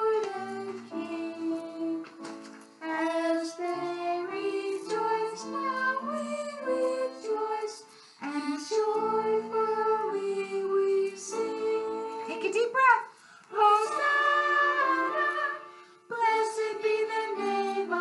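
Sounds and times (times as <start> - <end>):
woman singing a hymn: 0.0 - 2.2, 2.8 - 12.7, 13.5 - 18.0.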